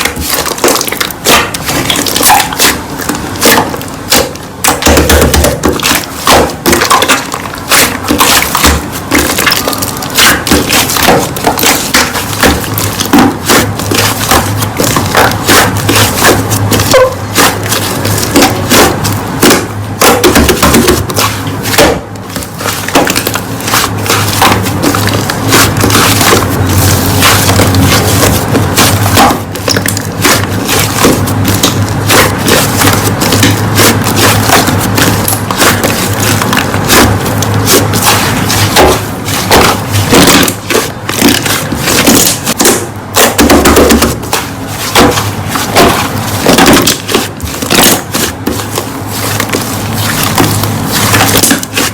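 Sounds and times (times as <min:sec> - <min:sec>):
slime crackling and popping: 0:00.0 - 0:51.9.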